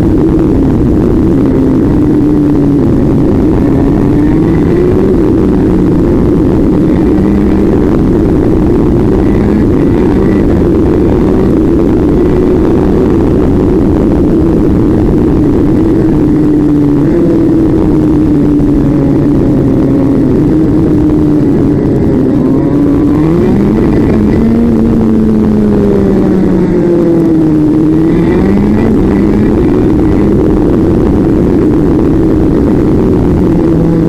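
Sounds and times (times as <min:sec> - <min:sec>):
rush of wind or road noise: 0:00.0 - 0:34.0
vehicle engine running: 0:00.0 - 0:34.0.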